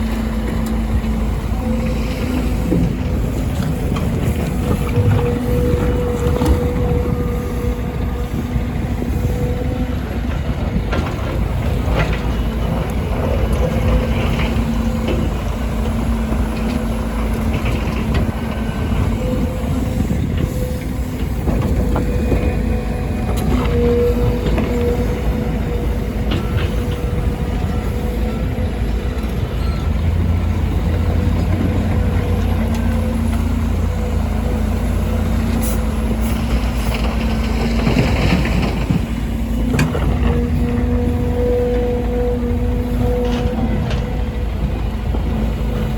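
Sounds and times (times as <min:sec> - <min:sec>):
constant engine whine: 0:00.0 - 0:45.9
excavator diesel engine running: 0:00.0 - 0:45.9.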